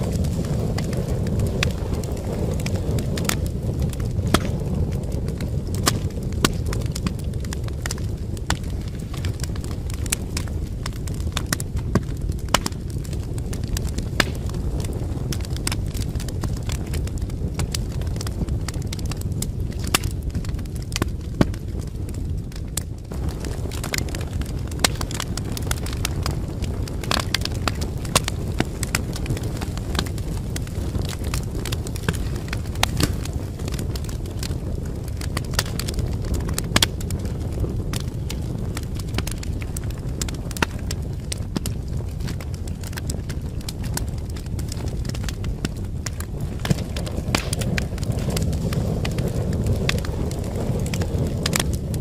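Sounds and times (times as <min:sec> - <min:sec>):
fire popping: 0:00.0 - 0:52.0
low rumble of fire: 0:00.0 - 0:52.0
wood fire crackling: 0:00.0 - 0:52.0.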